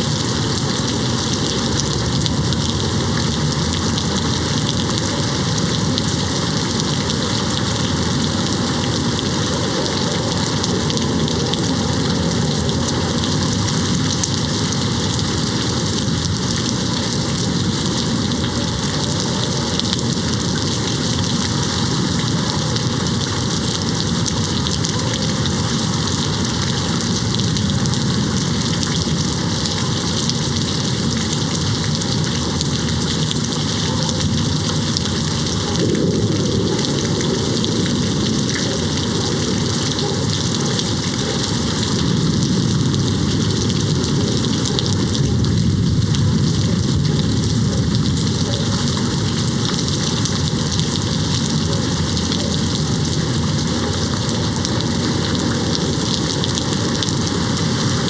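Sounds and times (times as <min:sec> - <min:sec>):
heavy rain on window: 0:00.0 - 0:58.0.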